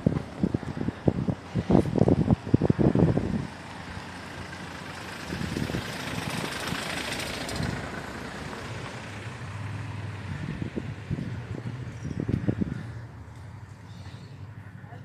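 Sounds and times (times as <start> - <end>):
low engine hum: 0.0 - 15.0
vehicle passing: 0.0 - 15.0.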